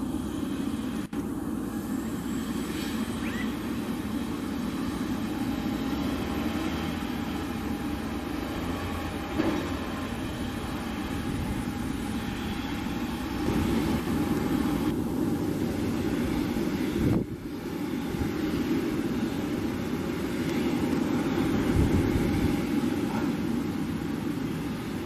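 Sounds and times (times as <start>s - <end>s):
faint steady whine: 0.0s - 25.0s
jet airliner rumbling hum: 0.0s - 25.0s.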